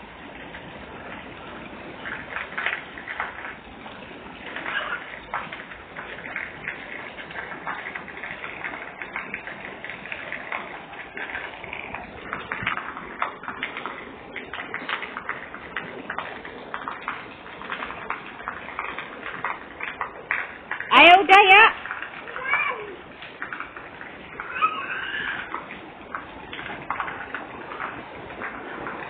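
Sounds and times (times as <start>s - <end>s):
rain on wet pavement: 0.0s - 29.0s
water from roof spout splashing: 0.0s - 29.0s.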